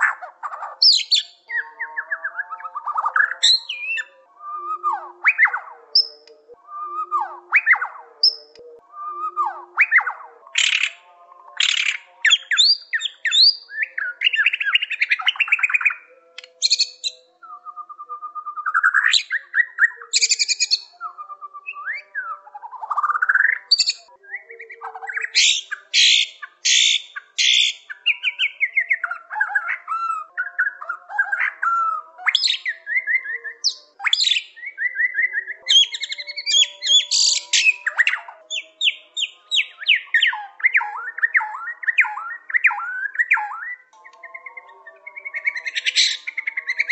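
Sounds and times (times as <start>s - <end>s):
bird singing varied whistles: 0.8s - 11.0s, 11.6s - 44.3s.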